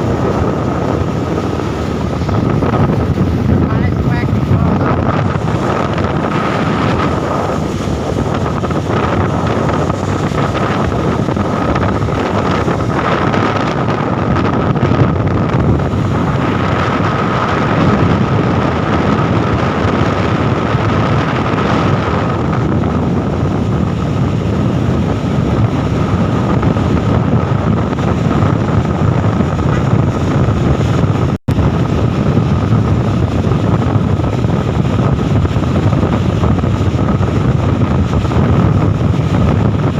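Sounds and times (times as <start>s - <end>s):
constant whine: 0.0s - 39.9s
truck driving: 0.0s - 39.9s
wind buffeting microphone: 0.0s - 39.9s.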